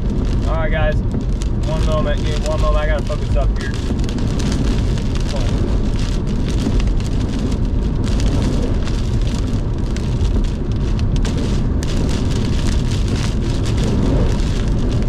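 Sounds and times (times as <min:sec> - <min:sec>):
heavy rain pelting a car: 0:00.0 - 0:15.0
wind gusts buffeting a car: 0:00.0 - 0:15.0.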